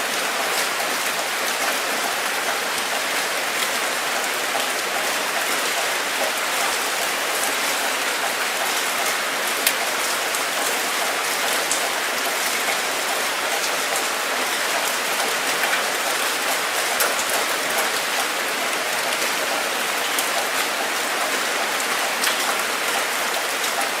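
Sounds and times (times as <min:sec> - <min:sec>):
raindrops ticking on hard surface: 0:00.1 - 0:24.0.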